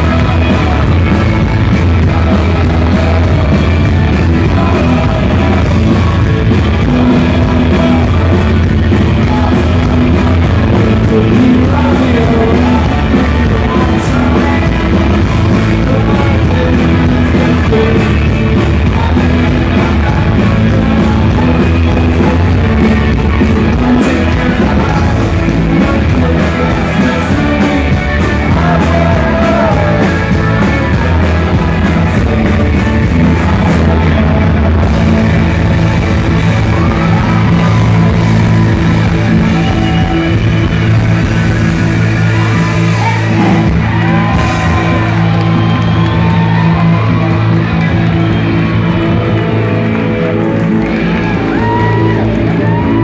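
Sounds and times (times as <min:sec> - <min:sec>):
person singing: 0:00.0 - 0:48.0
bass guitar: 0:00.0 - 0:53.0
drums: 0:00.0 - 0:53.0
electric guitars: 0:00.0 - 0:53.0.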